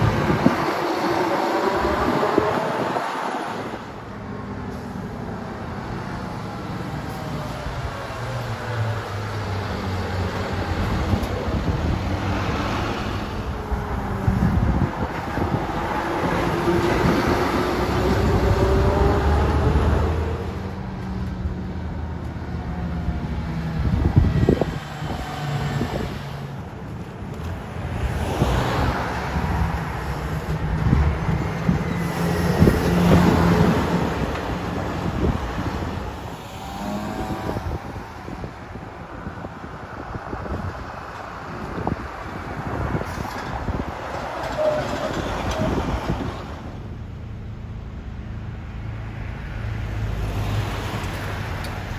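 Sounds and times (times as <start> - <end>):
diesel trucks driving past: 0.0 - 51.9.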